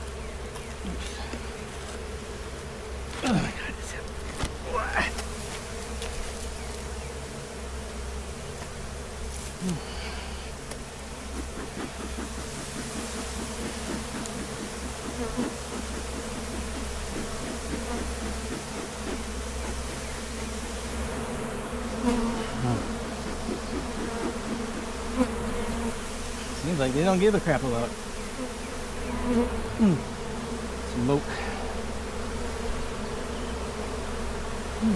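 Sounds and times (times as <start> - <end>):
bees buzzing: 0.0 - 34.9
single bee passing by: 0.0 - 34.9.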